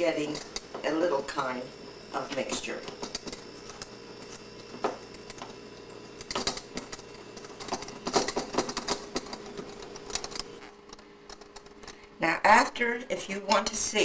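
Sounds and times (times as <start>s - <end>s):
utensil scraping mixing bowl: 0.0s - 12.0s.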